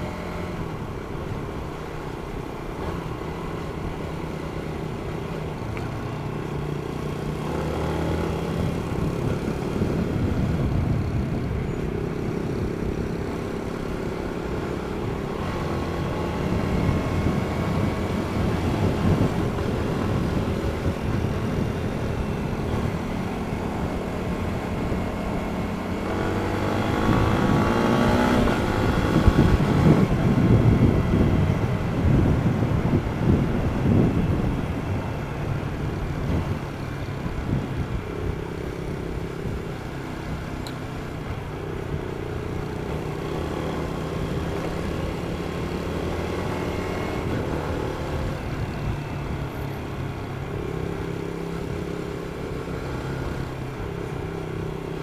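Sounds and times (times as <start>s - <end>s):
motorcycle engine running and revving: 0.0s - 55.0s.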